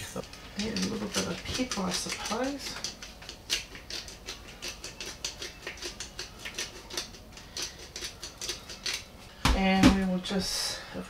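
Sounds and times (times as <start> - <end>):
pepper crackling over fish: 0.0 - 9.8.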